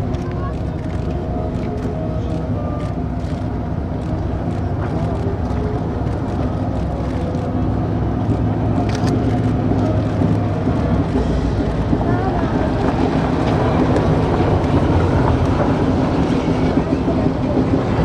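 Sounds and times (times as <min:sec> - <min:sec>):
military vehicle engines driving past: 0:00.0 - 0:18.0.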